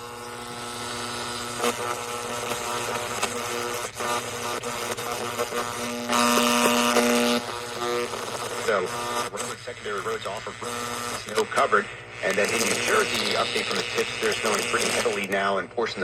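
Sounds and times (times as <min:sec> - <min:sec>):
radio crackles: 0:00.0 - 0:16.0
radio static hiss and buzz: 0:00.0 - 0:16.0
whining radio tones: 0:00.0 - 0:16.0.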